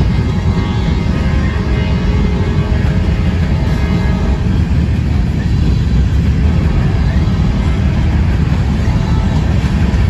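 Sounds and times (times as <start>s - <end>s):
steel train wheels rumbling on rails: 0.0s - 10.0s.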